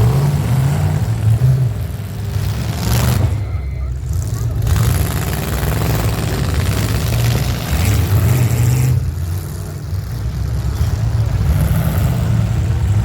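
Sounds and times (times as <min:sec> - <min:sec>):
vehicle engines revving: 0:00.0 - 0:13.0.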